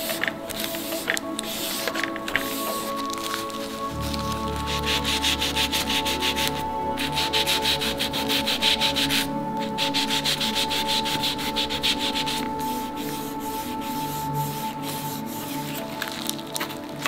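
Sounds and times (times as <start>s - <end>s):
pad scrubbing wooden sticks: 0.0s - 17.0s
soft background music: 0.0s - 17.0s
steady high tone: 0.0s - 17.0s.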